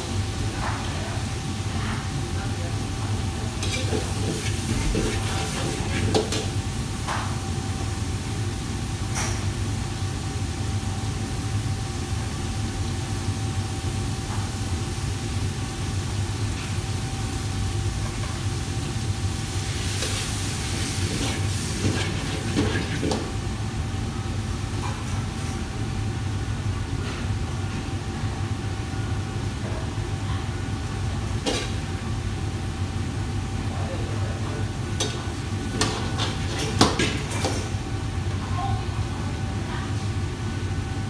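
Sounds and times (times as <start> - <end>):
gas burners roaring: 0.0 - 41.0.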